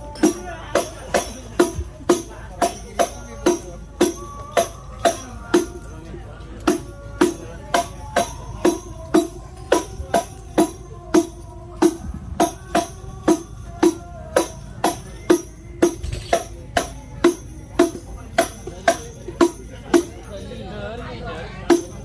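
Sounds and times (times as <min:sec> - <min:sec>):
frame drums with jingles: 0:00.0 - 0:22.0.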